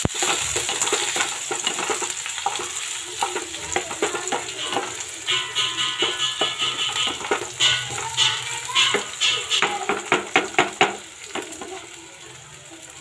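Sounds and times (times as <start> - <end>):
spatula scraping pan: 0.0 - 11.8
onions sizzling in oil: 0.0 - 13.0.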